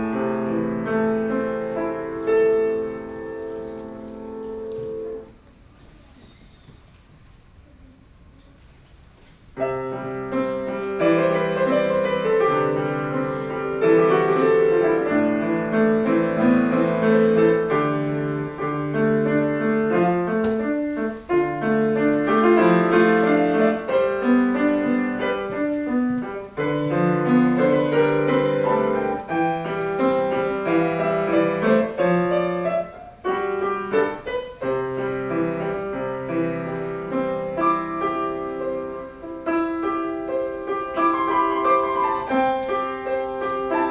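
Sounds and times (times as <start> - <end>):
solo piano classical piece: 0.0 - 5.5, 9.5 - 43.9.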